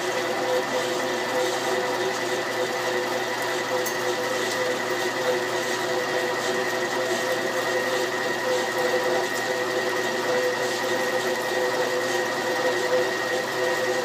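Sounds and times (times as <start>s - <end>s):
machine tool humming and whining: 0.0s - 14.0s.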